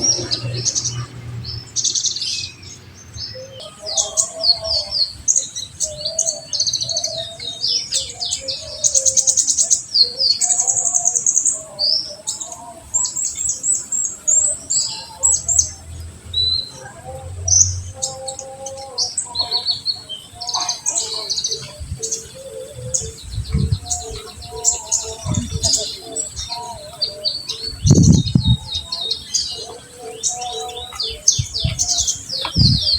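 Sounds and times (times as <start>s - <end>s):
sunbird singing: 0.0s - 32.9s.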